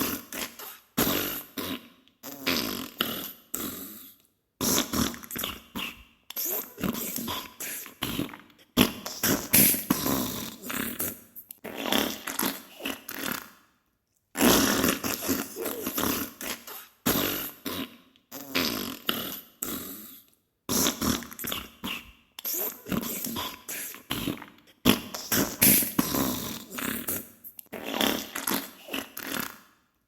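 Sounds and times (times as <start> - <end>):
wet farting noises: 0.0 - 3.2, 4.6 - 13.5, 14.4 - 19.4, 20.7 - 29.6.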